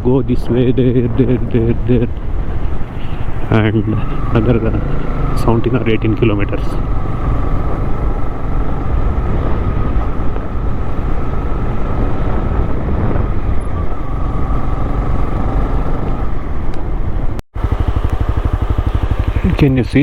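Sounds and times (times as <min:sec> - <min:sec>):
wind rumble on microphone: 0:00.0 - 0:17.7
motorcycle engine running: 0:00.8 - 0:20.0.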